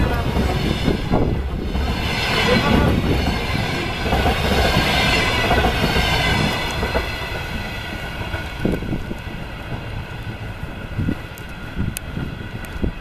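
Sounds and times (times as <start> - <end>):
train coaches rolling on rails: 0.0 - 13.0.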